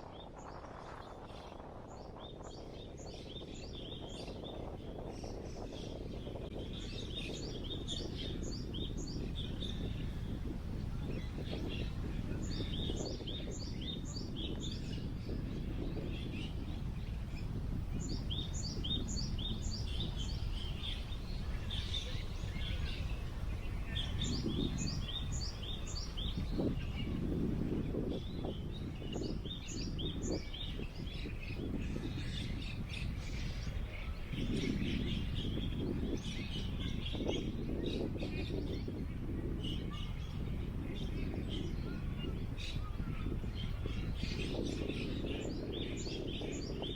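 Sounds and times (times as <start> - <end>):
low rush of wind: 0.0 - 46.9
songbird chirping: 0.1 - 46.9.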